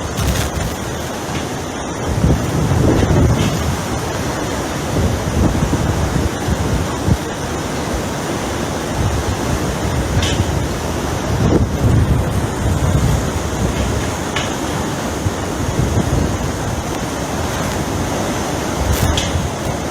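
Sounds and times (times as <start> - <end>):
strong wind blowing: 0.0 - 19.9
wind buffeting microphone: 0.0 - 19.9.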